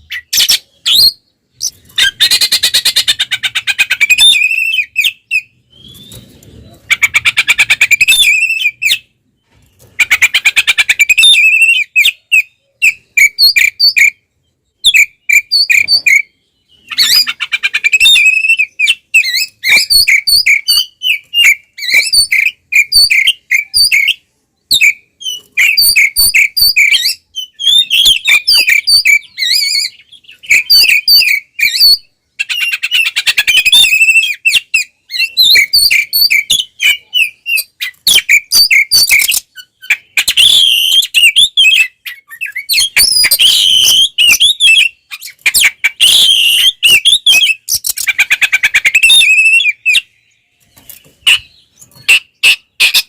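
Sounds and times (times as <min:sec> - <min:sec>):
songbird trilling and whistling: 0:00.0 - 0:09.1, 0:10.0 - 0:53.0.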